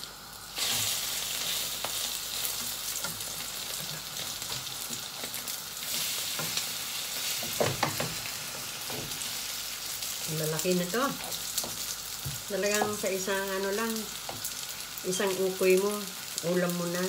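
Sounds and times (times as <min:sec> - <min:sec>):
fritters sizzling in hot oil: 0:00.0 - 0:17.0.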